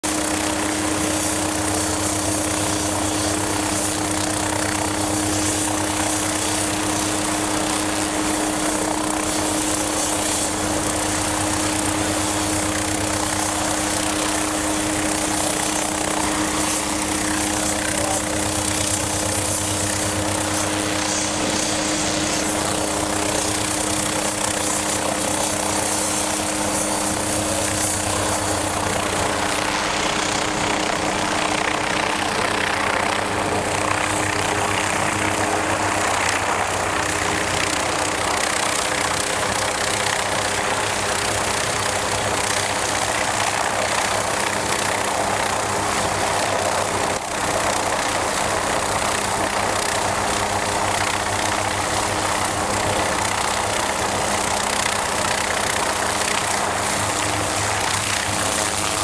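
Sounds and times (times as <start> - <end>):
helicopter engine and rotor running: 0.0 - 59.0.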